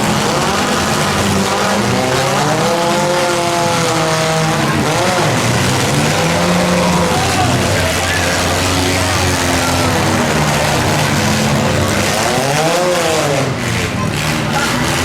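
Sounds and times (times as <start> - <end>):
car engines revving hard: 0.0 - 15.0
constant din: 0.0 - 15.0.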